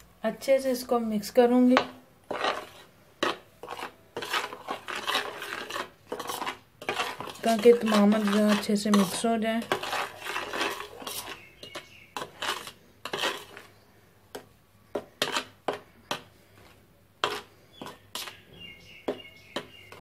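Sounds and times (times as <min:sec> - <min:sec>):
metal spoon scraping a bowl: 0:01.7 - 0:13.9, 0:14.9 - 0:20.0.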